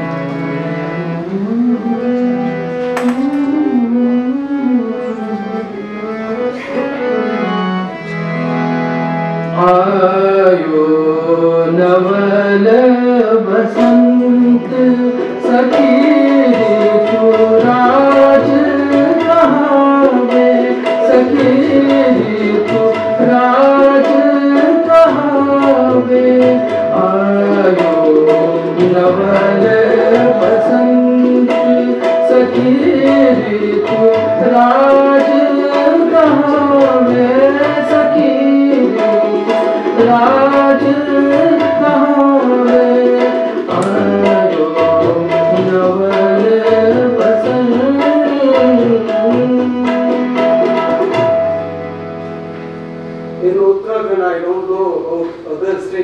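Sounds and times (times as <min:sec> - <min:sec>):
harmonium: 0:00.0 - 0:56.0
tabla: 0:00.0 - 0:56.0
man singing: 0:01.1 - 0:07.1, 0:09.6 - 0:51.2.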